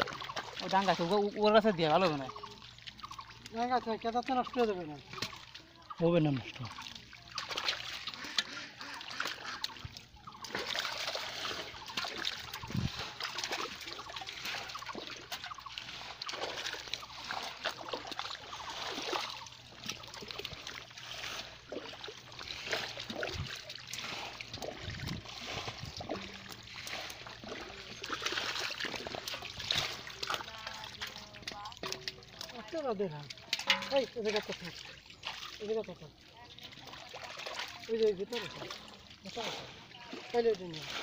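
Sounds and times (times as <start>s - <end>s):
hands sloshing through muddy water: 0.0s - 41.0s.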